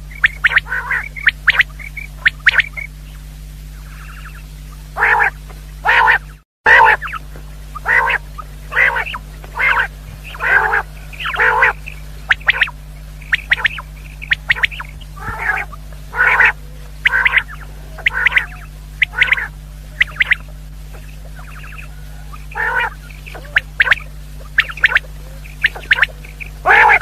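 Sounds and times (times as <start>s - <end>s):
low electrical hum: 0.0s - 27.0s
quail calling: 0.0s - 27.0s.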